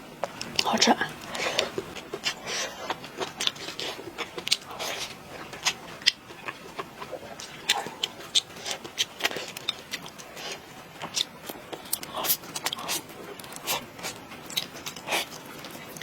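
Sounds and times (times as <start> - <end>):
mouth smacks and clicks: 0.2 - 16.0
person chewing and biting: 0.2 - 16.0.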